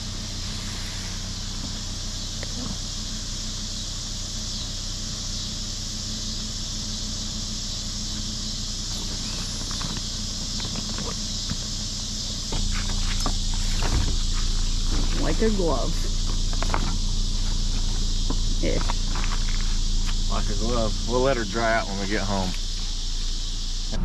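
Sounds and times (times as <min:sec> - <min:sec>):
low steady hum: 0:00.0 - 0:24.0
steady high drone: 0:00.0 - 0:24.0.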